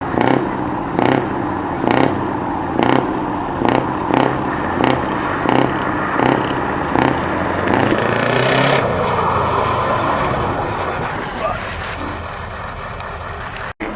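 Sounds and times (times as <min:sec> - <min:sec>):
truck diesel engine revving: 0:00.0 - 0:13.9.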